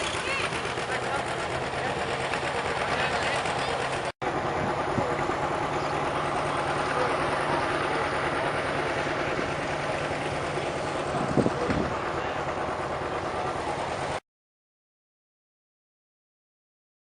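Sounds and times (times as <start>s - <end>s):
tractor engine idling: 0.0s - 14.2s.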